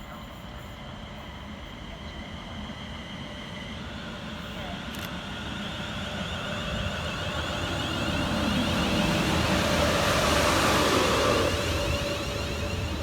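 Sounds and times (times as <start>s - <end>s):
electric train wheel and motor noise: 0.1s - 13.0s.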